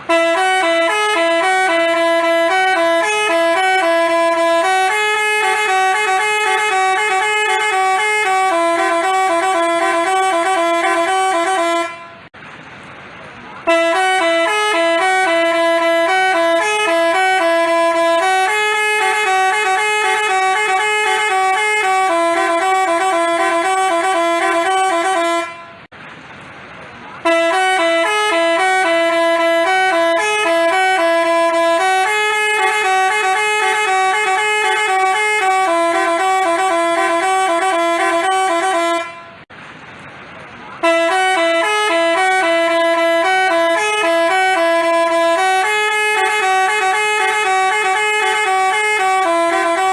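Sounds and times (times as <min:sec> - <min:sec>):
multi-tone bus horn tune: 0:00.0 - 0:12.4, 0:13.6 - 0:25.9, 0:27.2 - 0:39.5, 0:40.8 - 0:49.9.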